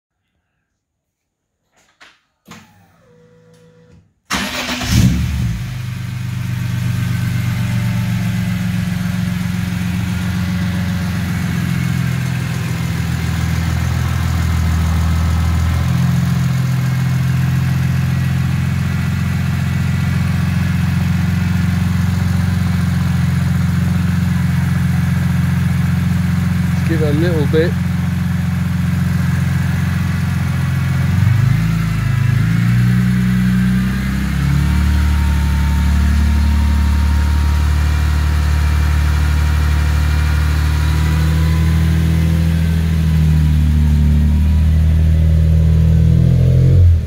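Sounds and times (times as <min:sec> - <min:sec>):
car engine starting and idling: 0:02.5 - 0:47.0.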